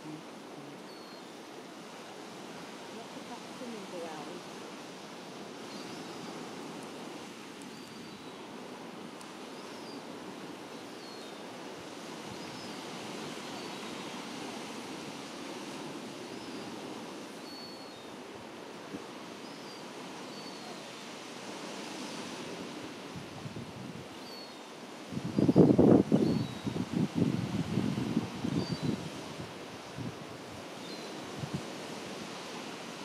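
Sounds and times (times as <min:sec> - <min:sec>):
sea surf breaking on shore: 0:00.0 - 0:33.0.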